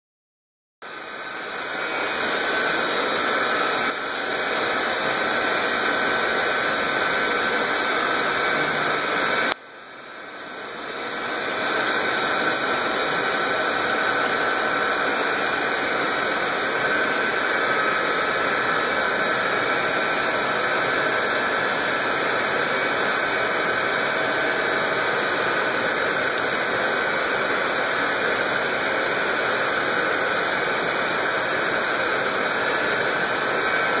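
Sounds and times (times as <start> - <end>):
pond water and aeration hiss: 0.9 - 34.0.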